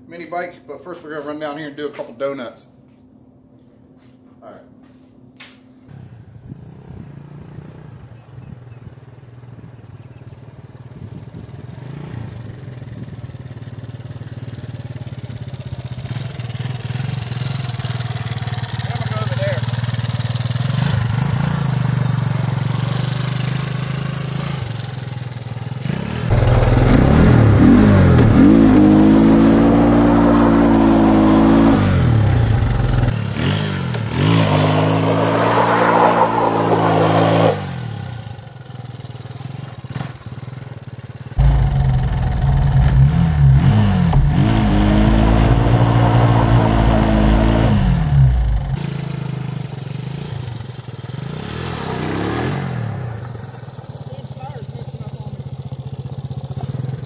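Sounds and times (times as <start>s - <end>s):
go-kart engine revving: 5.9s - 57.0s.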